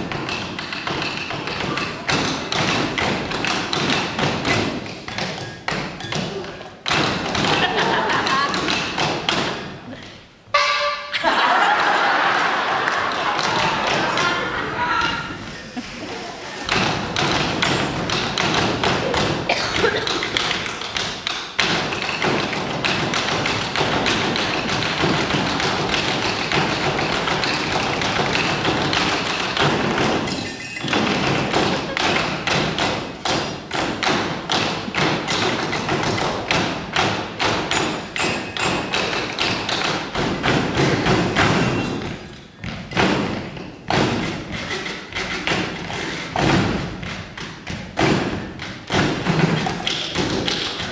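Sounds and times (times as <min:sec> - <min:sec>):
drumming on a table: 0:00.0 - 0:09.7, 0:16.6 - 0:50.9.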